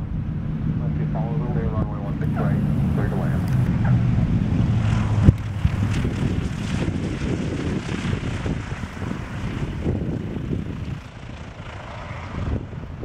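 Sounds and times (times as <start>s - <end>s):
propeller aircraft engines running: 0.0s - 13.0s.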